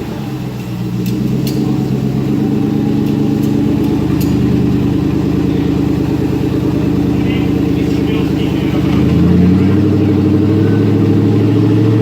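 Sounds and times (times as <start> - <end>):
engine droning on dyno: 0.0 - 12.0.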